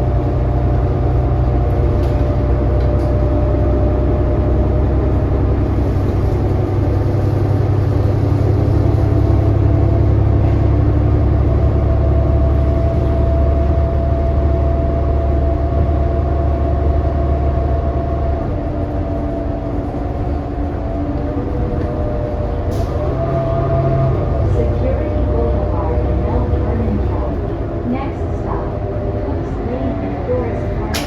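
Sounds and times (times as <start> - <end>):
bus engine rumble with whine: 0.0 - 31.0.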